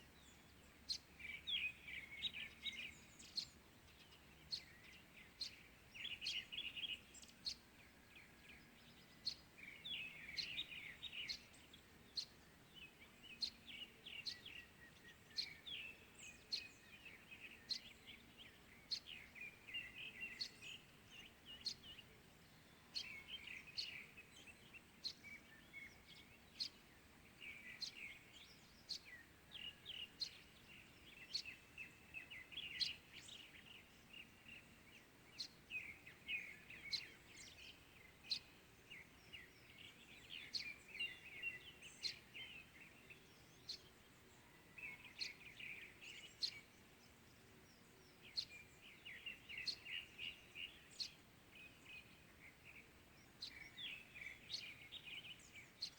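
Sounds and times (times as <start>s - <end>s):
low steady background hiss: 0.0s - 55.9s
small birds chirping: 0.0s - 55.9s.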